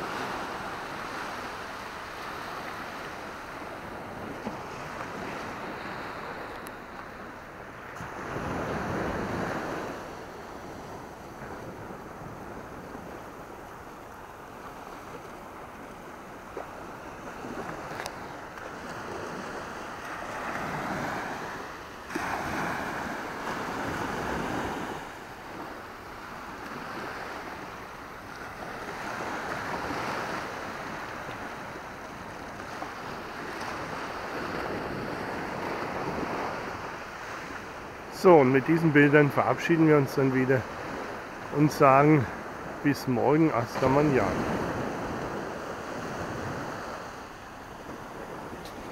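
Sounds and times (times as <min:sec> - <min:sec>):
small waves washing on sand: 0:00.0 - 0:48.9.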